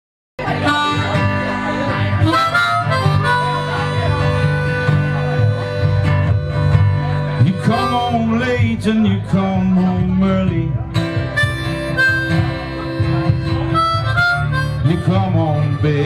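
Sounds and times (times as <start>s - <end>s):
acoustic guitar: 0.4s - 16.0s
bass notes: 0.4s - 16.0s
held melody line: 0.4s - 16.0s.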